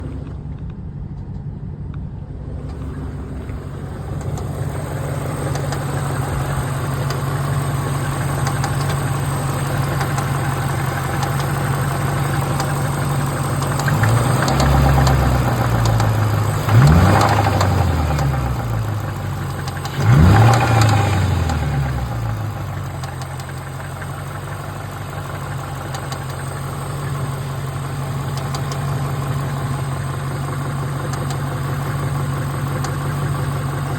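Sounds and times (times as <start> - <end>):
car engine idling and revving: 0.0 - 33.9
engine ticking: 0.0 - 33.9.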